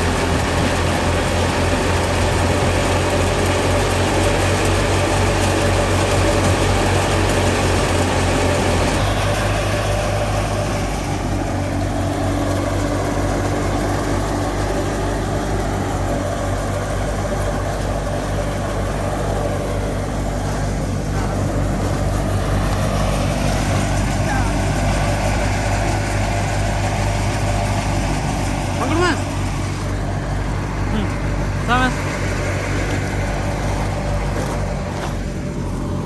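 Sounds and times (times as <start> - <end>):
wheat thresher hiss: 0.0 - 35.9
tractor diesel engine running: 0.0 - 36.0.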